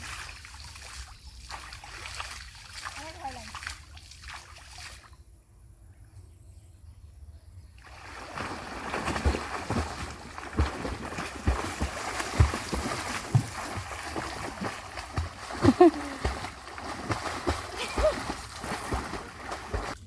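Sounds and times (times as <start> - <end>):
water splashing and sloshing: 0.0 - 5.2, 7.8 - 20.0.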